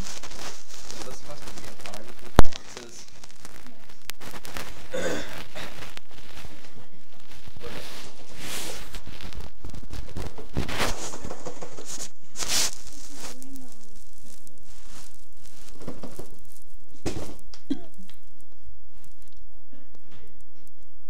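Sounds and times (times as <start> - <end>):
crackling and rustling: 0.0 - 21.0.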